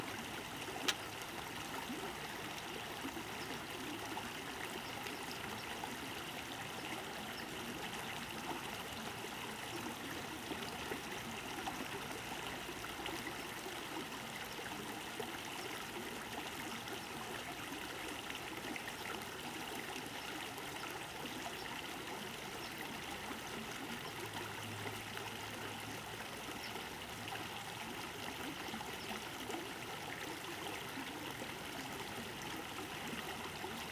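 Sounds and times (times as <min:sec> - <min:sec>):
creek water trickling: 0:00.0 - 0:33.9.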